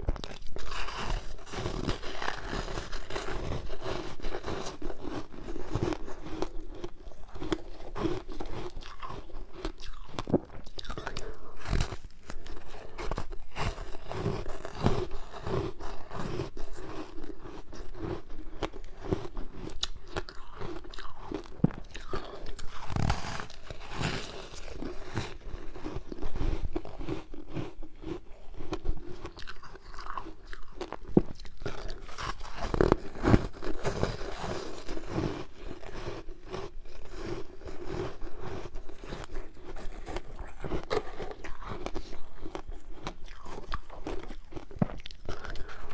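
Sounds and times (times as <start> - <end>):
person chewing ice: 0.0 - 45.9.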